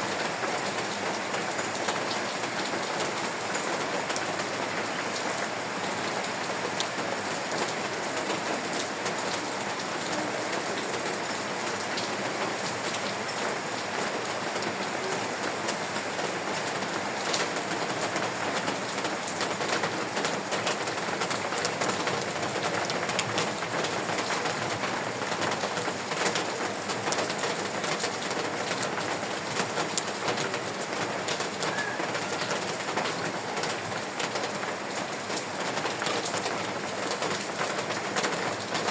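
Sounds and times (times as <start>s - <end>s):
raindrops ticking on a surface: 0.0s - 38.9s
steady rain falling: 0.0s - 38.9s.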